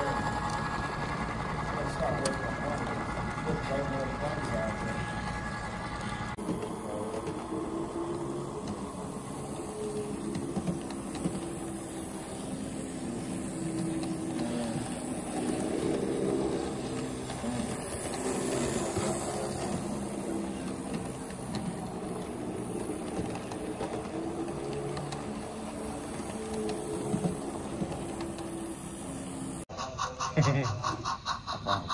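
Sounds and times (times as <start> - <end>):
model train motor hum: 0.0 - 31.9
wheels running on rails: 0.0 - 31.9.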